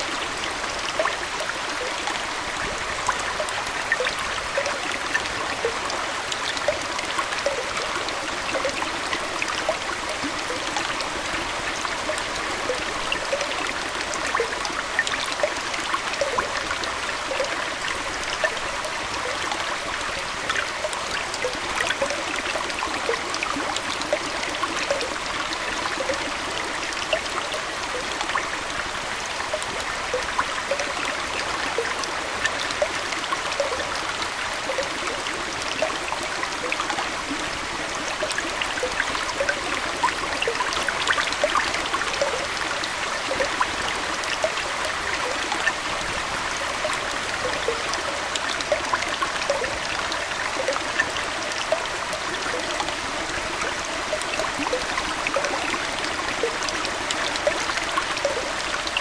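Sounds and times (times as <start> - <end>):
aquarium water trickling: 0.0 - 59.0
water bubbling and splashing: 0.0 - 59.0.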